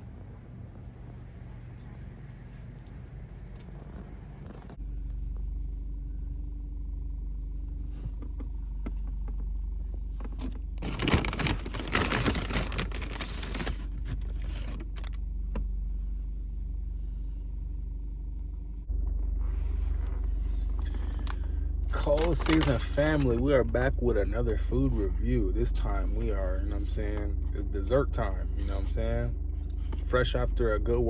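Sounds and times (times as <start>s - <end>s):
vehicle rumbling: 0.0s - 31.0s.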